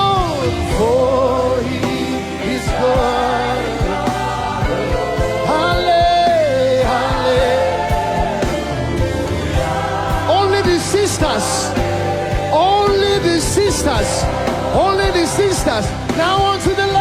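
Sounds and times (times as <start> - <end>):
voices singing long notes: 0.0 - 16.1
band playing: 0.0 - 17.0
steady drum beat: 0.0 - 17.0.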